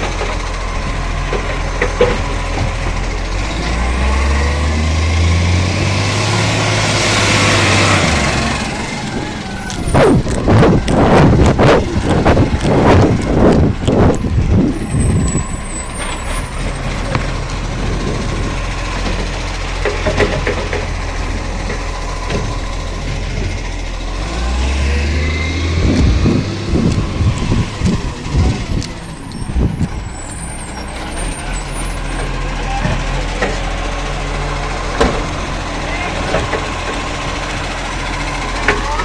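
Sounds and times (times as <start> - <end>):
garbage truck clanks and bangs: 0.0 - 39.0
truck engine running: 0.0 - 39.0.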